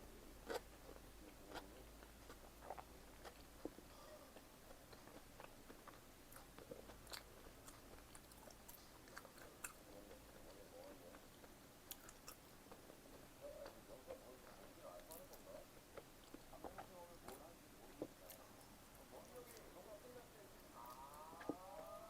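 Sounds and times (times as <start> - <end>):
chewing food: 0.4 - 22.0.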